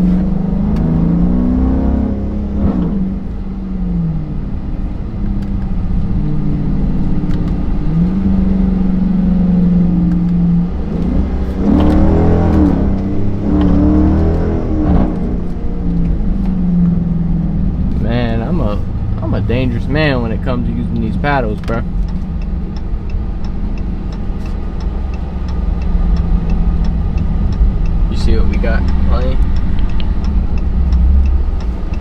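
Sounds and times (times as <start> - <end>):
car engine exhaust revving: 0.0 - 32.0.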